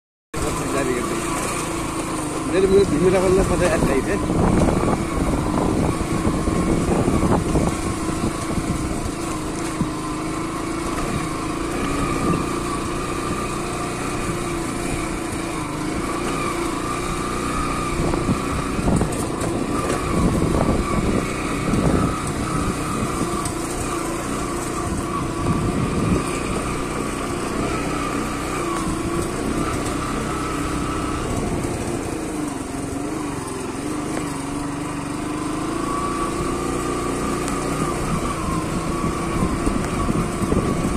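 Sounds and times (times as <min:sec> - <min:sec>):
small motorcycle engine running: 0:00.4 - 0:40.9.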